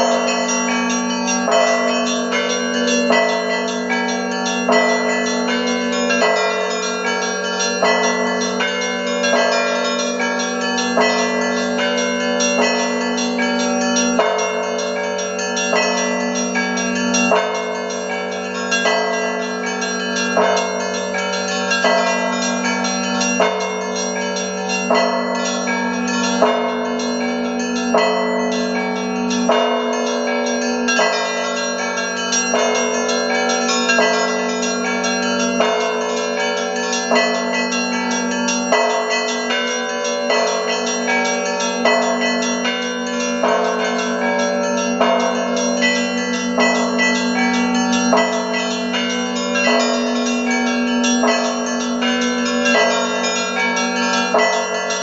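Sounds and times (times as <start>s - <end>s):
deep hum of large bells: 0.0s - 55.0s
small church bells ringing: 0.0s - 55.0s.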